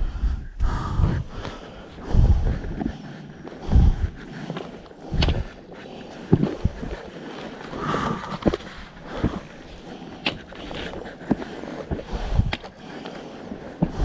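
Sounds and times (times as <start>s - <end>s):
footsteps on a trail: 0.6s - 14.0s.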